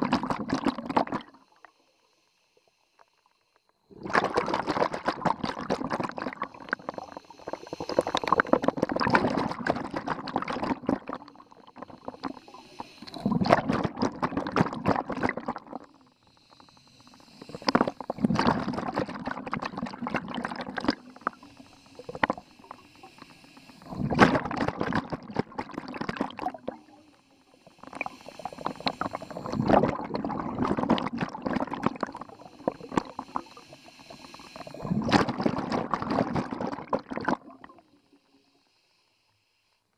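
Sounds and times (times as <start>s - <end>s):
diver's bubbles gurgling: 0.0s - 1.7s, 3.9s - 16.1s, 17.0s - 38.0s.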